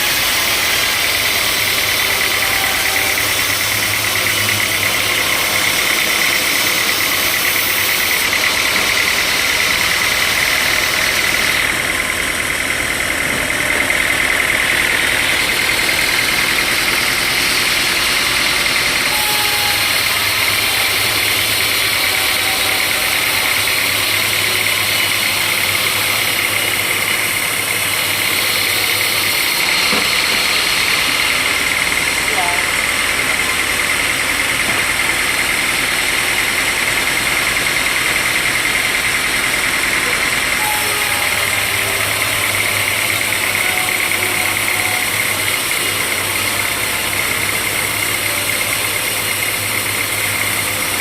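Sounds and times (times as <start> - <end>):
sawmill machinery whine and hum: 0.0 - 51.0.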